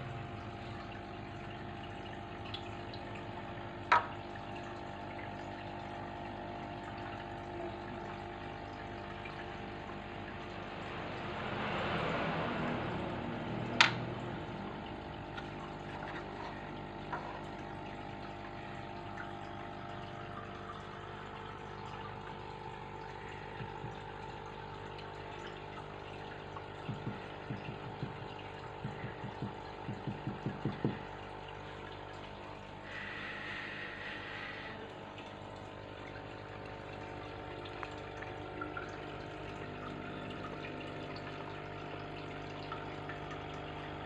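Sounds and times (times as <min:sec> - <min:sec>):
aquarium filter humming: 0:00.0 - 0:44.0
water trickling: 0:00.0 - 0:44.0.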